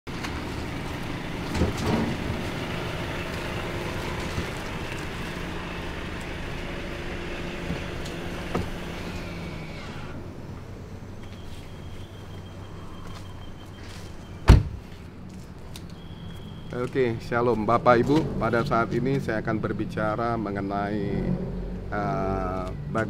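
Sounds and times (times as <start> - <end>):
car engine humming: 0.1 - 23.0.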